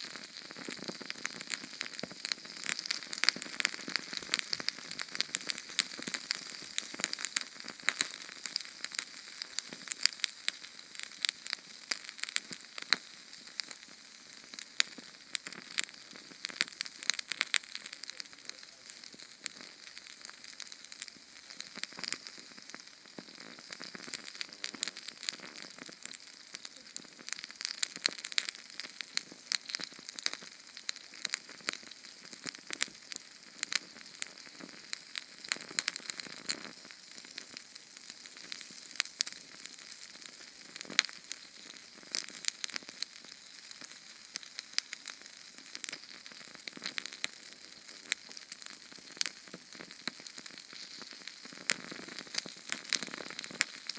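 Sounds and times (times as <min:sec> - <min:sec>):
small flame hissing and crackling: 0:00.0 - 0:53.9.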